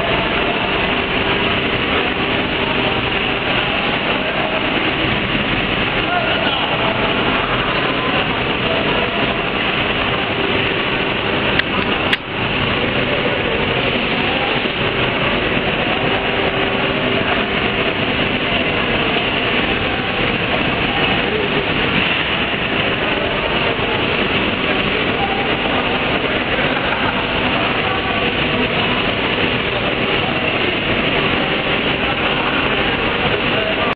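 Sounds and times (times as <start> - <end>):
industrial machinery din: 0.0 - 33.9.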